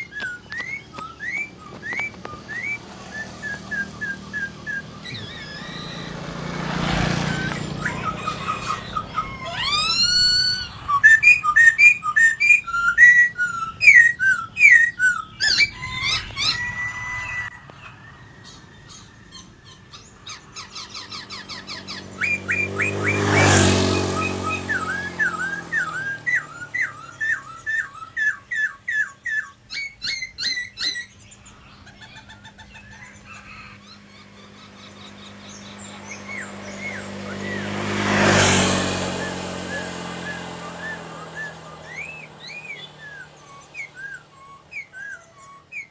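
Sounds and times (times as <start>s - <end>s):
bird singing whistled phrases: 0.0s - 17.6s, 18.9s - 45.9s.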